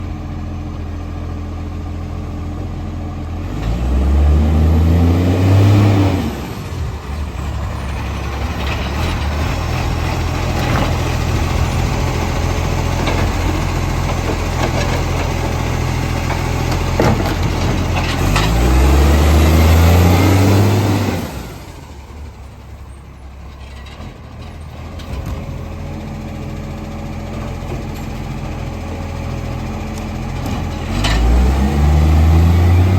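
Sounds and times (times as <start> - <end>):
truck engine idling and revving: 0.0 - 32.9.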